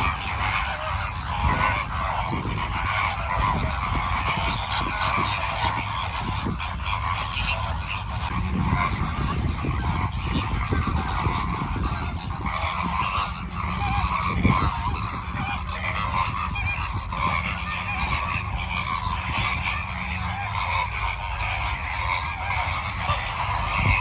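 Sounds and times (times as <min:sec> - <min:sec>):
flamingos honking: 0:00.0 - 0:24.0
steady low rumble: 0:00.0 - 0:24.0.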